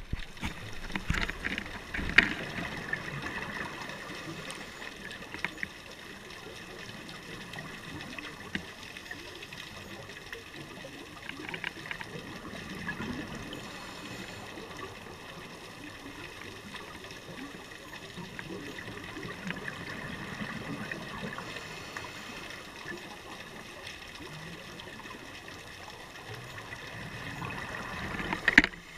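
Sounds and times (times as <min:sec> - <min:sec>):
faint clicks: 0:00.0 - 0:28.9
muffled underwater water hiss: 0:00.0 - 0:28.9.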